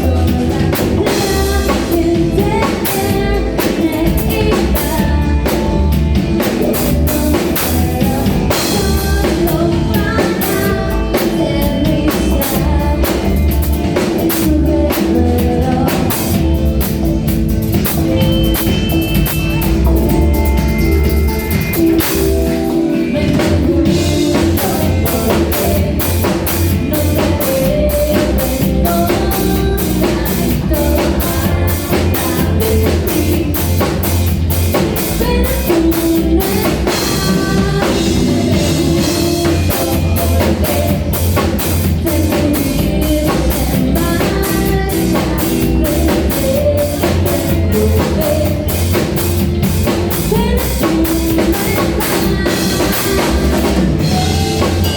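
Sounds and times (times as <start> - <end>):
drum kit beat: 0.0 - 54.9
electric guitar: 0.0 - 54.9
low bass: 0.0 - 54.9.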